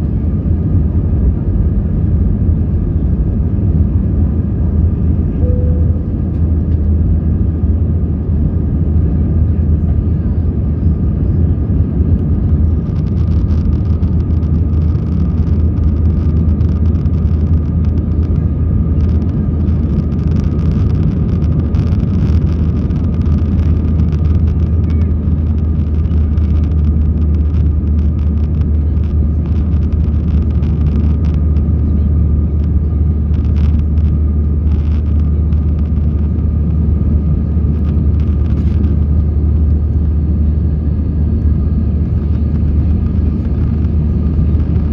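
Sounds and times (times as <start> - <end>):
faint steady whine: 0.0 - 44.9
jet engine low rumble: 0.0 - 44.9.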